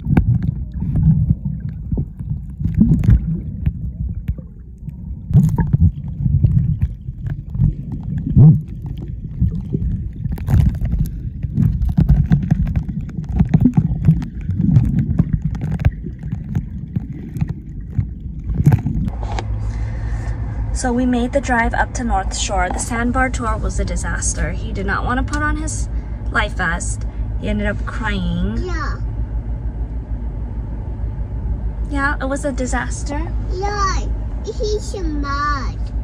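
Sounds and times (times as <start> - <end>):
muffled underwater rumble: 0.0 - 36.0.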